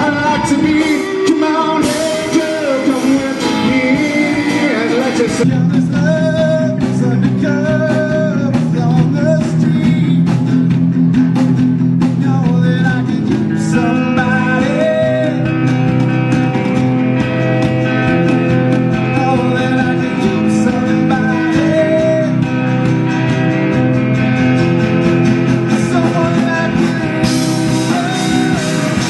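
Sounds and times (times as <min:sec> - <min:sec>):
man singing: 0:00.0 - 0:10.8, 0:11.9 - 0:17.0, 0:18.0 - 0:29.0
acoustic guitar strumming: 0:00.0 - 0:29.0.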